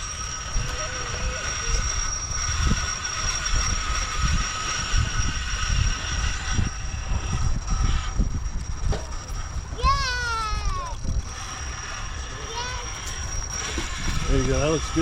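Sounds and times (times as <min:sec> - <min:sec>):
electric motor and gears whining: 0:00.0 - 0:15.0
wind on microphone: 0:00.0 - 0:15.0.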